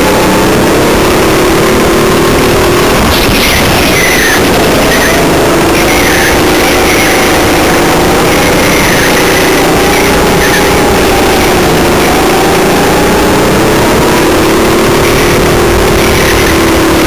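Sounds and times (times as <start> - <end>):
kart engine running hard: 0.0 - 17.0.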